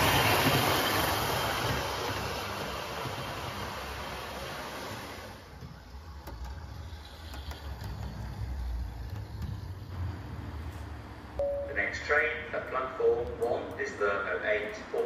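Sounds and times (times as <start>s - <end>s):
model train rumbling: 0.0s - 15.0s.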